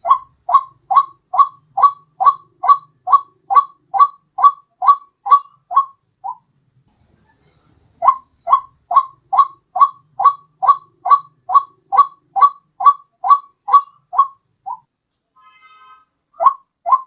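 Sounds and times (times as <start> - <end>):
waterhen calling: 0.0 - 6.4, 8.0 - 14.9, 16.4 - 17.0.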